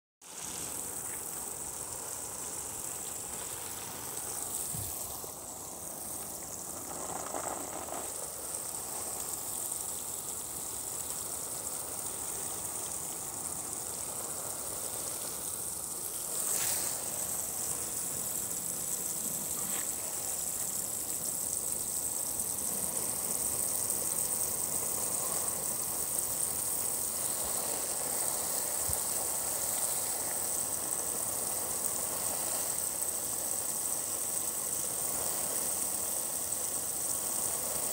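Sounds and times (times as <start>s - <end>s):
water sprinkling onto plants: 0.2s - 37.9s.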